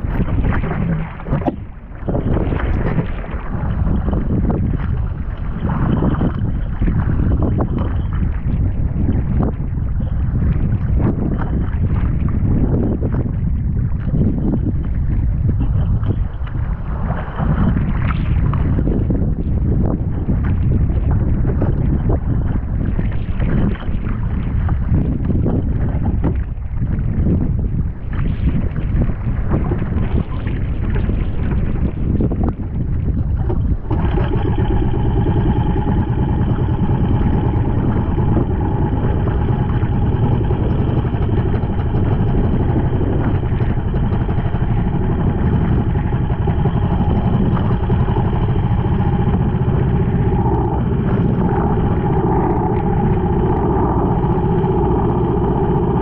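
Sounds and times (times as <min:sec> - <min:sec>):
boat engine running: 0:00.0 - 0:56.0
water splashing along hull: 0:00.0 - 0:56.0
waves against boat: 0:00.0 - 0:56.0
wind on microphone: 0:00.0 - 0:56.0.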